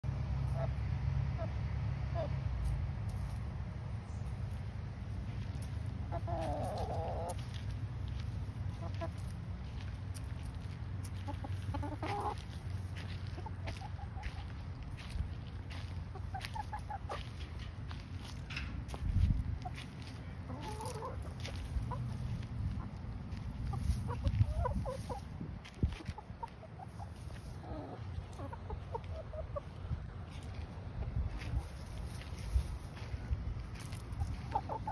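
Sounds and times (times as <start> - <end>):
steady low rumble: 0.1 - 34.9
chickens clucking: 0.2 - 34.9.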